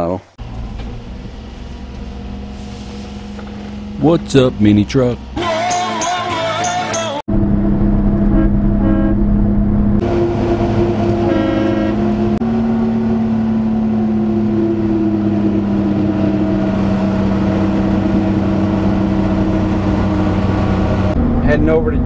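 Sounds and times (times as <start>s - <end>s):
road noise: 0.0s - 22.0s
truck engine running: 0.4s - 22.0s.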